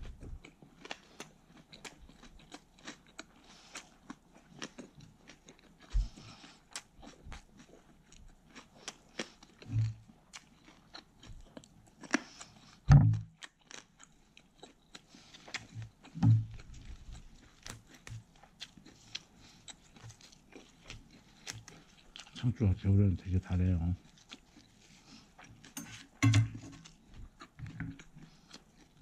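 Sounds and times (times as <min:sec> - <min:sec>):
person chewing crunchy lettuce: 0:00.0 - 0:29.0.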